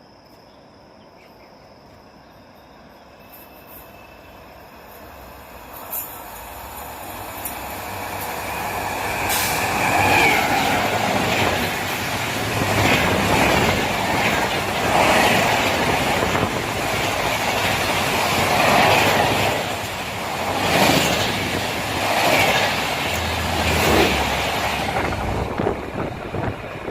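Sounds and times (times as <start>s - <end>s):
train wheels rushing on rails: 3.2s - 26.9s.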